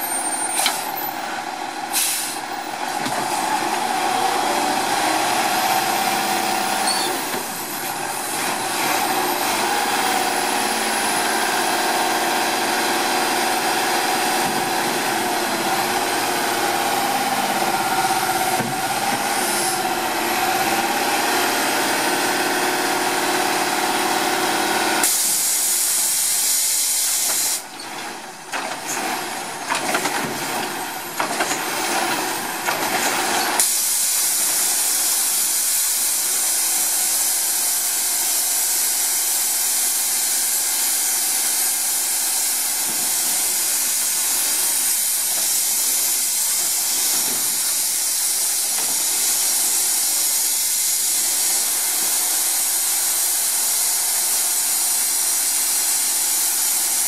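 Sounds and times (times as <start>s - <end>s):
garbage truck hissing: 0.0s - 57.0s.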